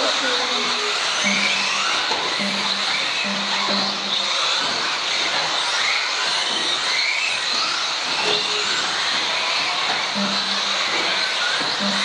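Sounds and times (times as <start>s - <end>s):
electric toy car motors whining: 0.0s - 12.0s.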